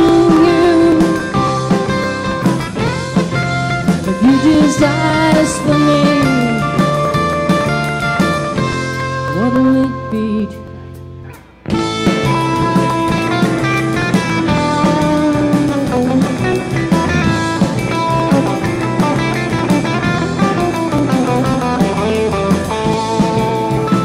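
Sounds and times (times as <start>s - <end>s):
drum kit: 0.0s - 24.0s
electric guitars: 0.0s - 24.0s.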